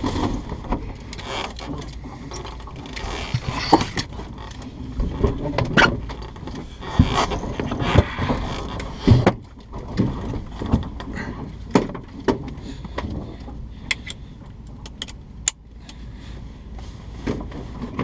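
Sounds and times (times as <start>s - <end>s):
clicks and knocks in cabin: 0.0s - 16.0s.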